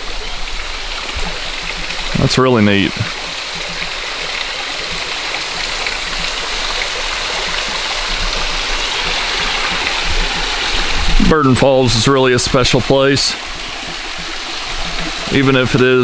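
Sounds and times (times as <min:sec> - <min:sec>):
small waterfall splashing: 0:00.0 - 0:16.0.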